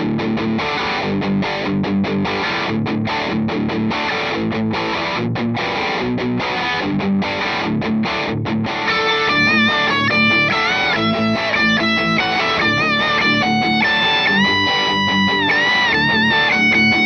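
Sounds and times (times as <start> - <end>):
distorted electric guitar riff: 0.0 - 17.0.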